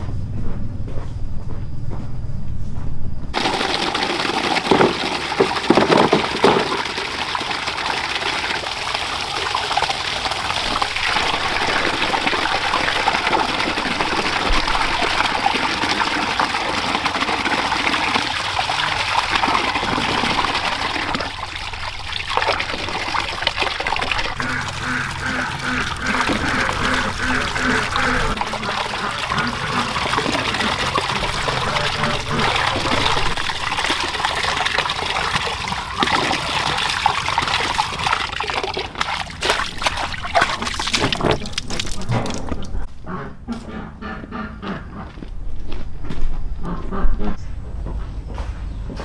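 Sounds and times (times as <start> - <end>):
water gushing: 3.4 - 42.9.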